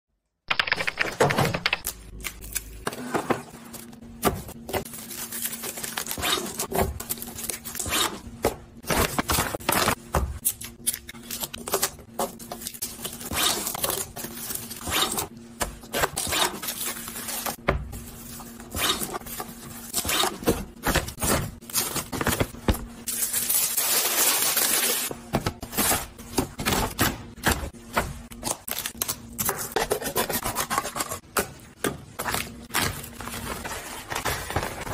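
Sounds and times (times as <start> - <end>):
groceries and packaging handled: 0.6 - 34.9.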